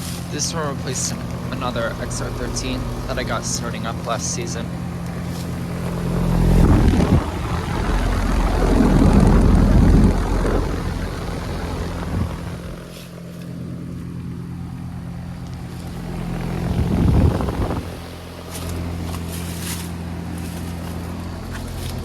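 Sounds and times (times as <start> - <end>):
compressor electrical hum: 0.0 - 22.0
condenser fan rushing: 0.0 - 22.0.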